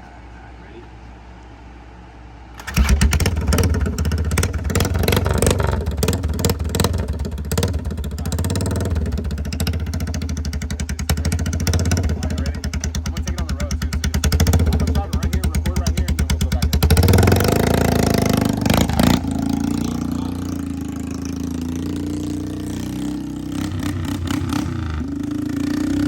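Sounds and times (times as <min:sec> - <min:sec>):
atv engine starting and idling: 0:02.5 - 0:26.0.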